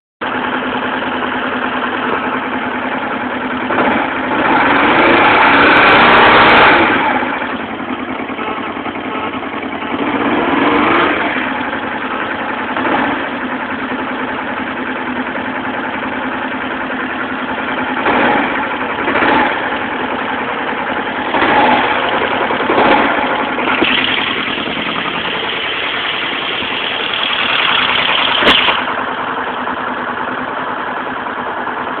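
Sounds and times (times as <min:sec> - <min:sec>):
motorcycle engine idling and revving: 0:00.2 - 0:32.0.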